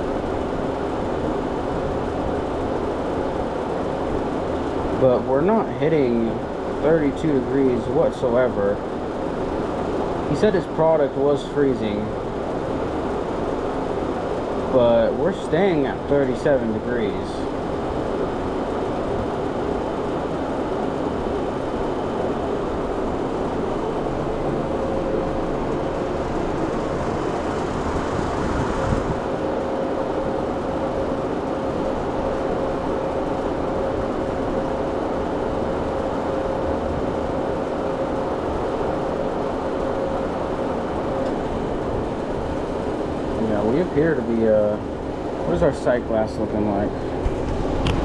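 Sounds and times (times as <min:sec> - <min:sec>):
fans and refrigeration running: 0:00.0 - 0:48.0
steady hum tone: 0:00.0 - 0:48.0.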